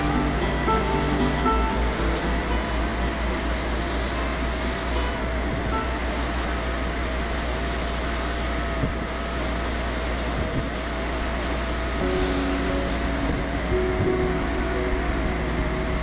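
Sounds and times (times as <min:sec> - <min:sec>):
sandblasting hiss: 0:00.0 - 0:13.8
low hum: 0:00.0 - 0:16.0.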